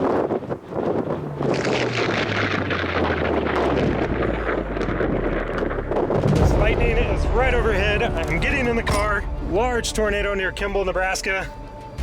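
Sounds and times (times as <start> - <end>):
storm wind buffeting microphone: 0.0 - 12.0
low hum: 0.7 - 12.0.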